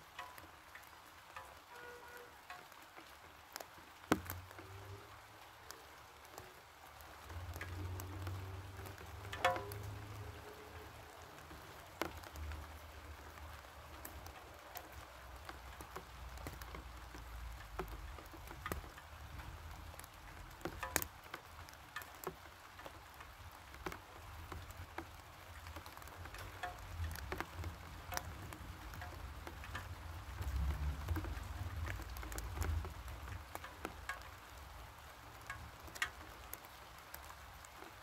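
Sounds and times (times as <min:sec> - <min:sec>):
rain pattering: 0:00.0 - 0:38.0
raindrops ticking: 0:00.0 - 0:38.0.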